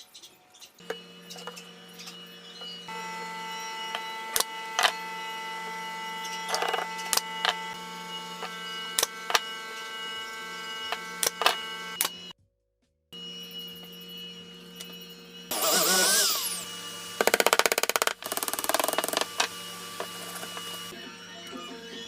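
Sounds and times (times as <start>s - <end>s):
machine humming: 0.7s - 12.4s, 13.2s - 22.0s.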